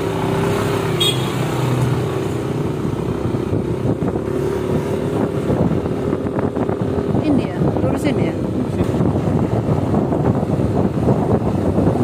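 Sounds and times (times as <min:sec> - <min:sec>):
motorcycle engine running: 0:00.0 - 0:12.0
road noise: 0:00.0 - 0:12.0
wind noise: 0:01.4 - 0:12.0.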